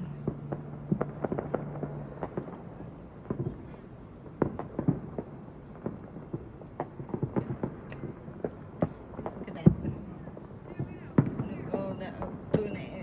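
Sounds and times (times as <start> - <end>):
distant fireworks popping: 0.0 - 13.0.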